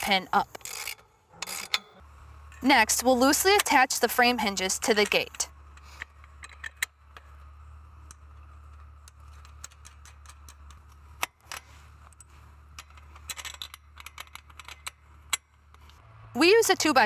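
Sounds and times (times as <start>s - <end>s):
metal hardware clinking and rattling: 0.4s - 16.0s.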